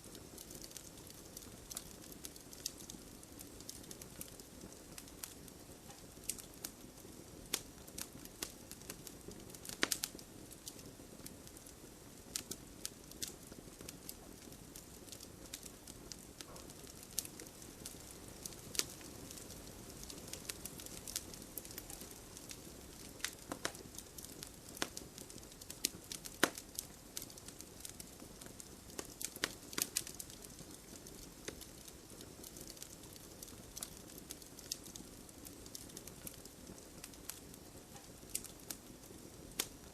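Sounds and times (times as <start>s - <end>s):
fire low hiss: 0.0s - 39.9s
wood fire crackling and popping: 0.0s - 39.9s.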